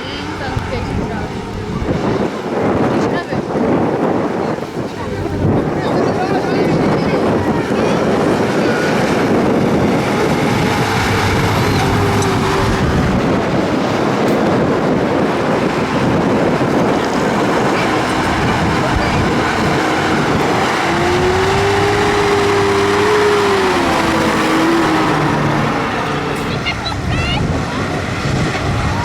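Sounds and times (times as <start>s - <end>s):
tractor engine revving: 0.0s - 29.0s.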